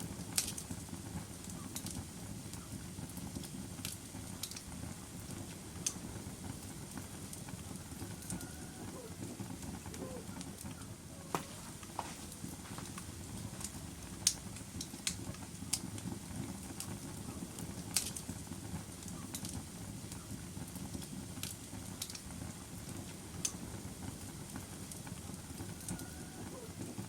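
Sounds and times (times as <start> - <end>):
sharp pops from fire: 0.0 - 8.5, 9.2 - 26.2
log fire crackling: 0.0 - 27.0.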